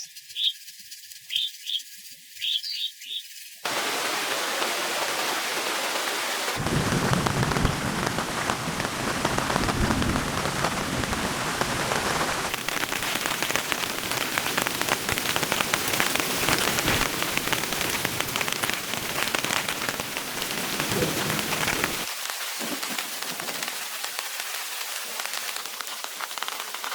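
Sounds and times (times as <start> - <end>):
heavy rain pattering: 3.7 - 26.9.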